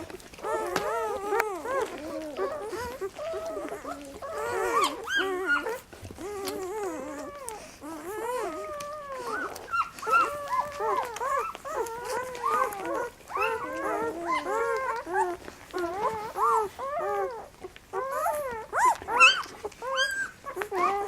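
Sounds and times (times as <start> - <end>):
puppies whimpering and squealing: 0.0 - 21.0.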